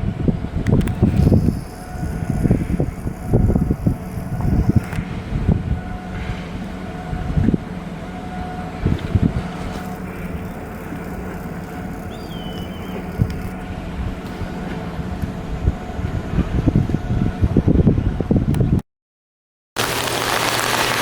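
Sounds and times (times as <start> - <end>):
machinery hum: 0.0 - 18.6
wind buffeting microphone: 0.0 - 18.8.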